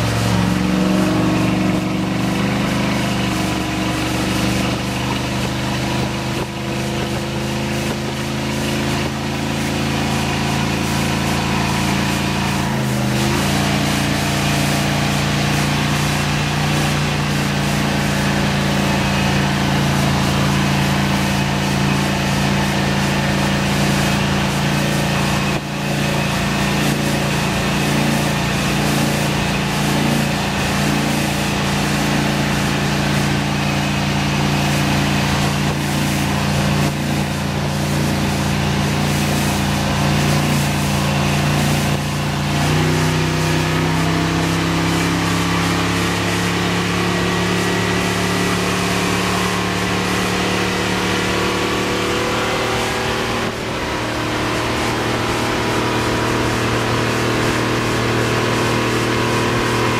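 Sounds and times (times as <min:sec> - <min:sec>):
boat engine drone: 0:00.0 - 0:59.9
rush of wake and wind: 0:00.0 - 0:59.9.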